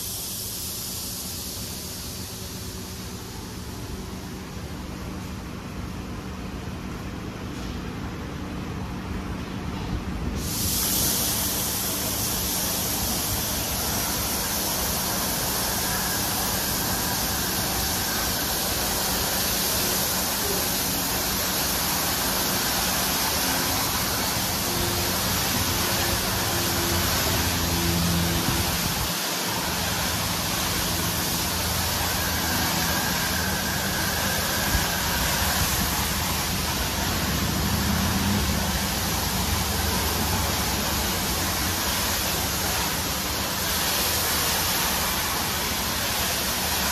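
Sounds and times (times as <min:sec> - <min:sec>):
car wash water spray hiss: 0:00.0 - 0:46.9.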